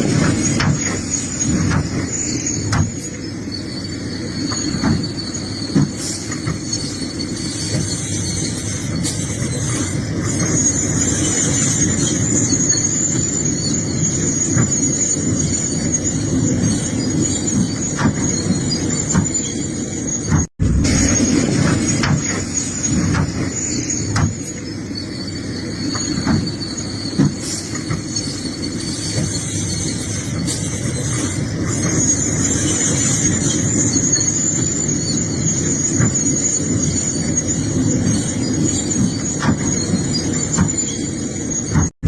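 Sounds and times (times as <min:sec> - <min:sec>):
excavator engine running: 0:00.0 - 0:42.0
high-pitched squeal: 0:00.0 - 0:42.0.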